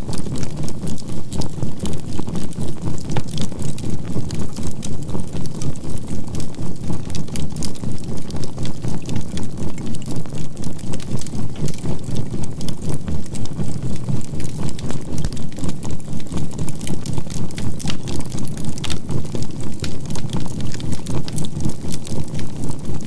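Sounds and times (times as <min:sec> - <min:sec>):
charcoal fire crackling: 0:00.0 - 0:23.0.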